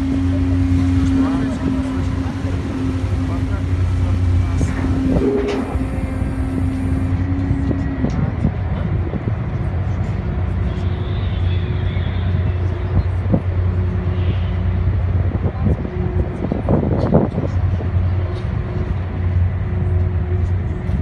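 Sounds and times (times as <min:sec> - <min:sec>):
ferry engines droning: 0:00.0 - 0:21.0.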